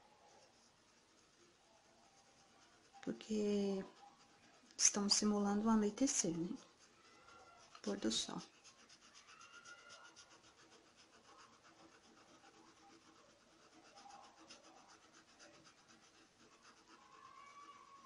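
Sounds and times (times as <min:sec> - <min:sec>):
brush scrubbing fabric: 0:00.0 - 0:18.0.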